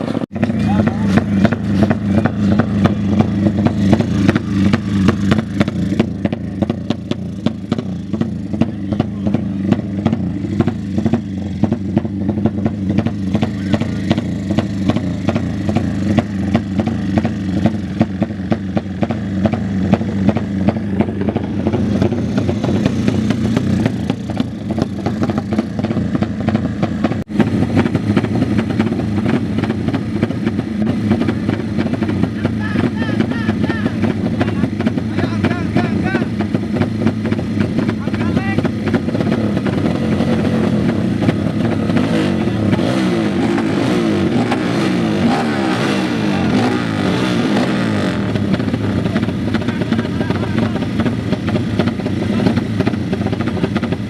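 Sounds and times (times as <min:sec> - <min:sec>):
motorcycle engines running: 0:00.0 - 0:54.0.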